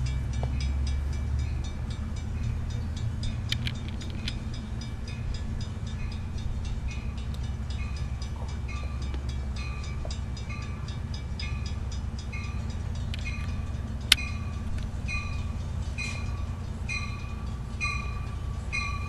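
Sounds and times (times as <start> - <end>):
bell ringing: 0.0 - 19.0
diesel train engine rumbling: 0.0 - 19.0.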